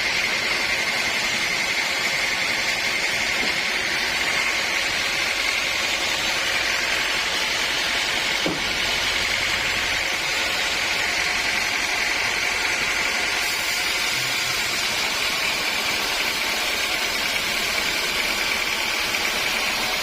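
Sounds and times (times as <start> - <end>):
sawmill machinery humming and whining: 0.0 - 20.0.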